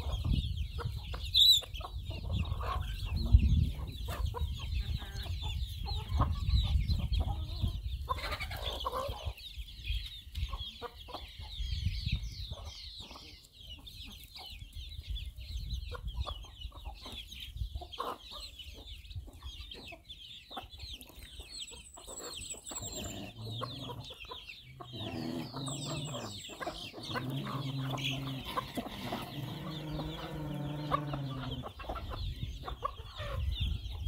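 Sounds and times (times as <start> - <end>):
hens clucking: 0.0 - 9.4, 10.0 - 11.6, 15.9 - 34.0
chicks peeping: 0.0 - 34.0.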